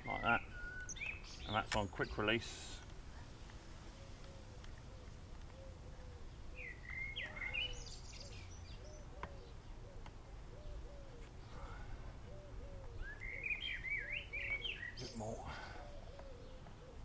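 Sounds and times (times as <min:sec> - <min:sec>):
garden birds chirping: 0:00.0 - 0:17.0
outdoor background noise: 0:00.0 - 0:17.0.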